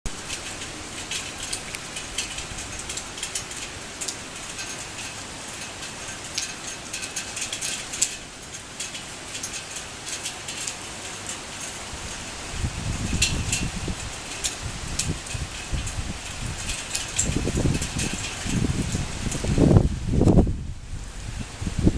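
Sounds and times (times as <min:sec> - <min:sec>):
torrential rain pouring: 0:00.0 - 0:21.9
raindrops ticking on hard surface: 0:00.1 - 0:20.6.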